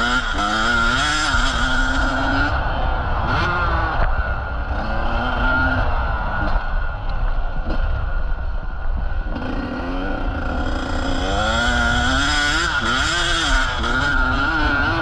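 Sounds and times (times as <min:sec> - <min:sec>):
motocross bike engine revving: 0:00.0 - 0:06.6, 0:09.2 - 0:15.0.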